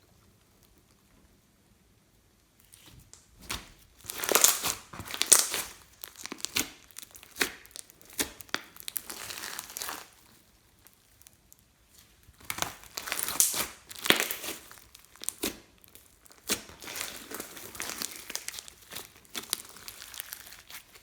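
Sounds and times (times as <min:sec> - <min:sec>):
slime crackling and popping: 0:02.6 - 0:21.0.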